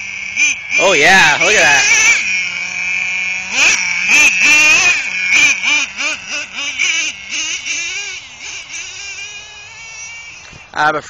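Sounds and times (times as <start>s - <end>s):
nitro engine idling and revving: 0.0s - 11.0s.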